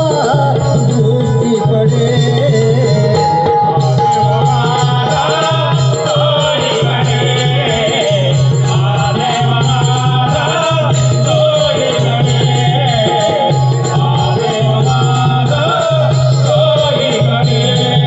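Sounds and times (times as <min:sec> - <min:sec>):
drum: 0:00.0 - 0:18.0
person singing: 0:00.0 - 0:18.0
rattling percussion: 0:00.0 - 0:18.0.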